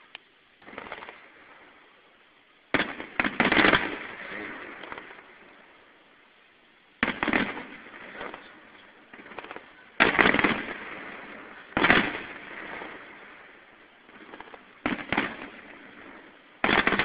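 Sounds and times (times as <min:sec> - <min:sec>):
fireworks bursting with loud bangs: 0:00.0 - 0:06.4, 0:07.0 - 0:17.0
fireworks crackle and rumble: 0:00.0 - 0:17.0.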